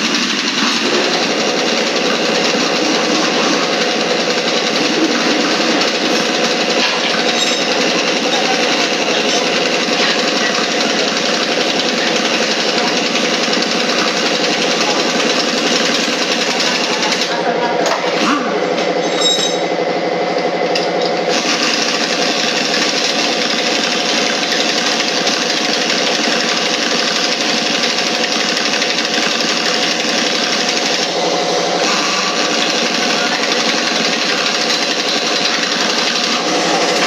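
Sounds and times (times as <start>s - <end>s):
machine running with fast chatter: 0.0s - 37.0s.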